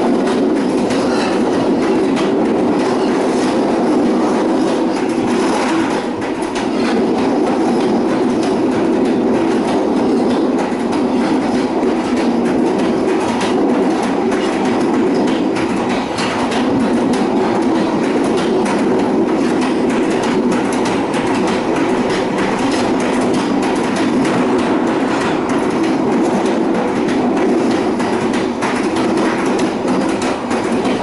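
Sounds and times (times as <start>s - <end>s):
train rumbling on track: 0.0s - 31.0s
wheels clicking on rails: 0.0s - 31.0s.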